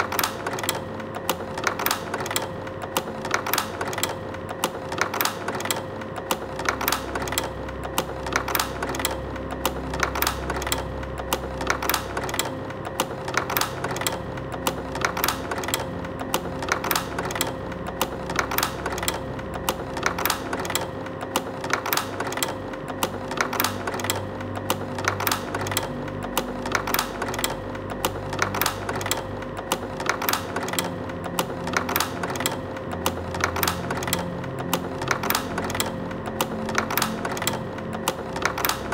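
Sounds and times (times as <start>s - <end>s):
slide projector clicking: 0.0s - 38.9s.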